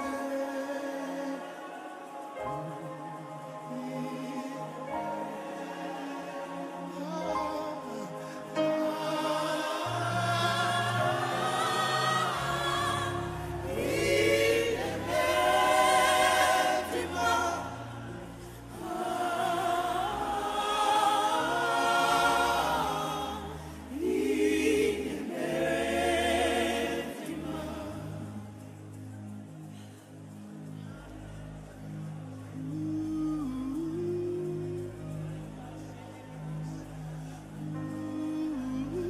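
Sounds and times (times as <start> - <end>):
choir singing in harmony: 0.0 - 39.0
keyboard chords and bass: 2.4 - 39.0.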